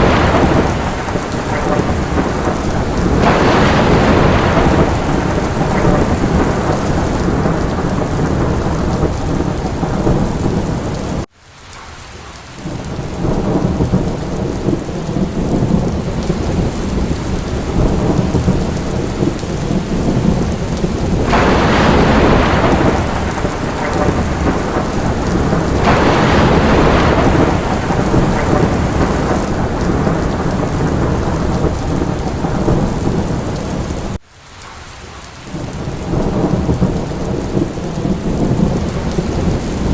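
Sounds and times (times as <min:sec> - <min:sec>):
deep rumbling thunder: 0:00.0 - 0:11.3, 0:12.6 - 0:34.2, 0:35.5 - 0:39.9
heavy rain: 0:00.0 - 0:39.9.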